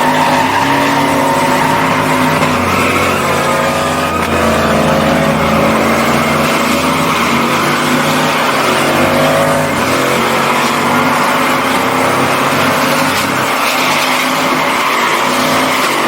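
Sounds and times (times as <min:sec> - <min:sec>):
tires squealing: 0:00.0 - 0:16.0
truck engine at high revs: 0:00.0 - 0:16.0.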